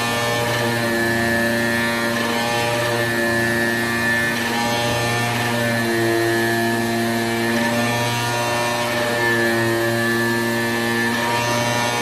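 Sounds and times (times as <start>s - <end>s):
cutting machine humming: 0.0s - 12.0s
whining motor tones: 0.0s - 12.0s.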